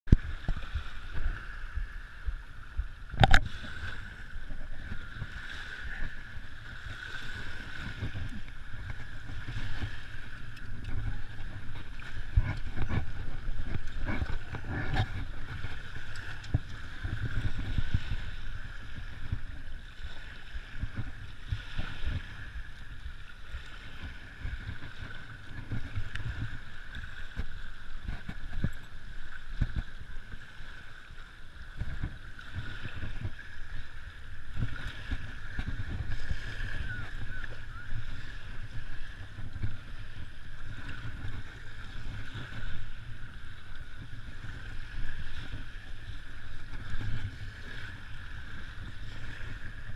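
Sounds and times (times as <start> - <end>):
muffled wind rumble: 0.0 - 49.9
waves lapping on shore: 0.1 - 49.9.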